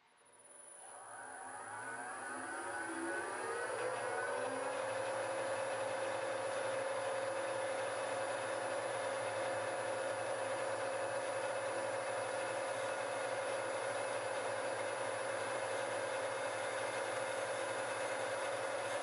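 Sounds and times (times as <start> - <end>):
milling machine spindle whine: 0.3 - 19.0.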